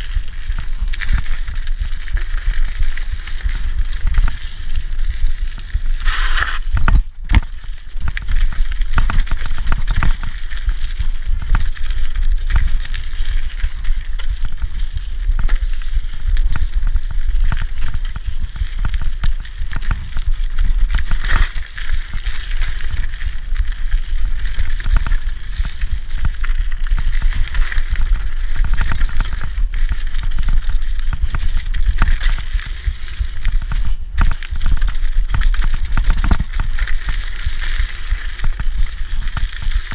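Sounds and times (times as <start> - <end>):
bike frame rattling: 0.0 - 39.9
bike tyres crunching on dirt: 0.0 - 39.9
steady low rumble: 0.0 - 39.9.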